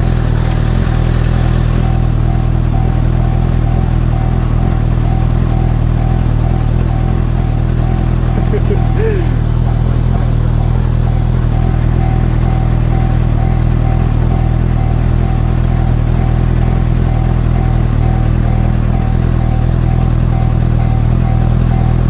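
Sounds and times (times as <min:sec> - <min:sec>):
motorcycle engine idling: 0:00.0 - 0:22.0
railway crossing alarm: 0:00.0 - 0:22.0.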